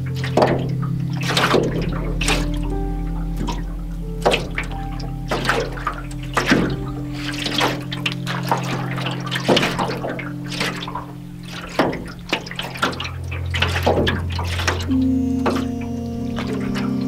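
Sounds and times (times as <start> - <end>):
ambient music drone: 0.0 - 17.0
waves lapping against canoe hull: 0.0 - 17.0.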